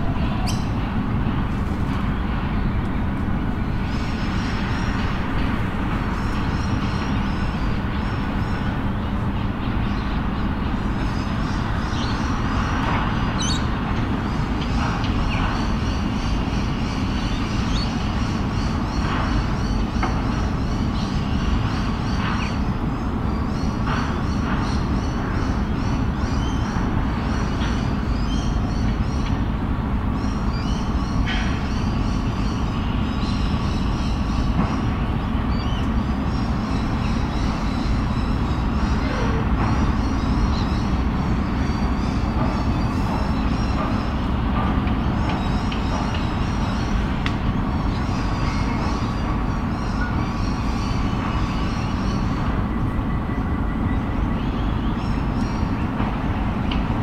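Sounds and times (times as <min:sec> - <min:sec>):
city traffic rumble: 0:00.0 - 0:57.0
small birds chirping: 0:00.3 - 0:01.4, 0:02.0 - 0:56.9.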